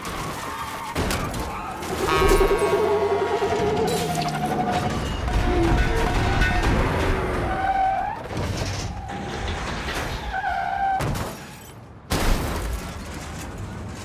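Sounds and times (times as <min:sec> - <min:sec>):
crunching metal: 0:00.0 - 0:14.0.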